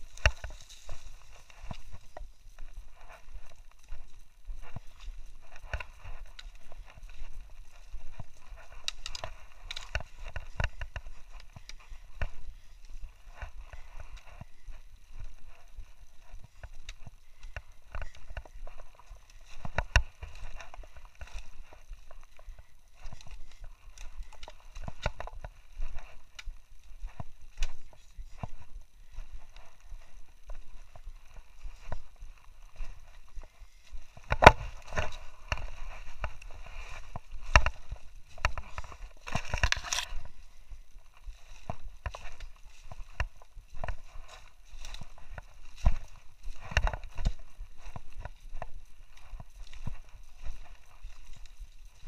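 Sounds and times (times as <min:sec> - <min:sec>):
crunching over a rocky trail: 0:00.0 - 0:52.0.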